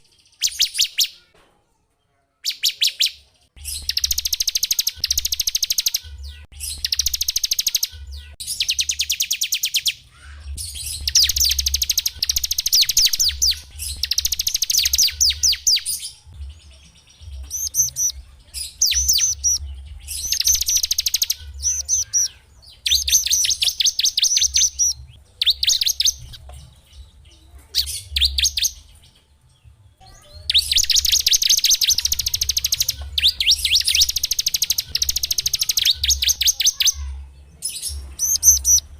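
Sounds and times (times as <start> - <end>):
songbird singing trilled phrases: 0.0 - 1.3, 2.4 - 38.9.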